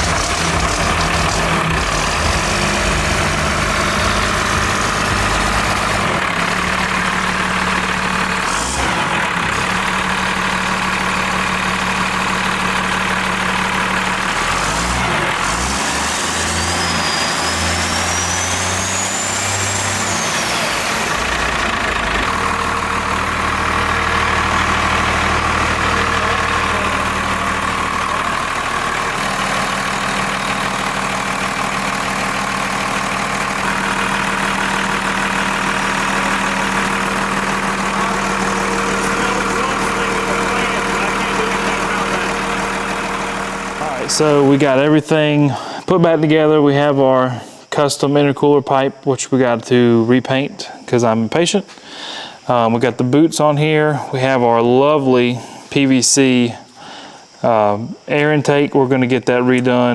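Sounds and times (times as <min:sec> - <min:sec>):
diesel engine idling: 0:00.0 - 0:48.2, 0:49.7 - 0:59.9.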